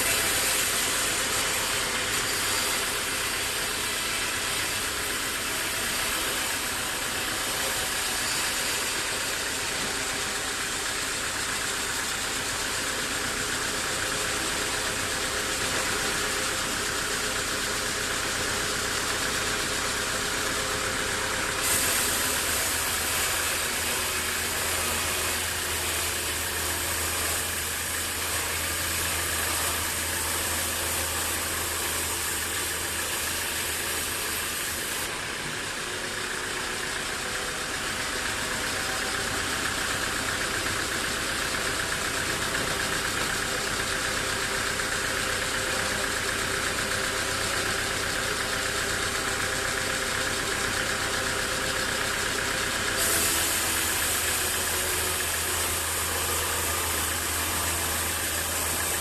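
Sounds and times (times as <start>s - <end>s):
sawmill machinery drone and hiss: 0.0s - 59.0s.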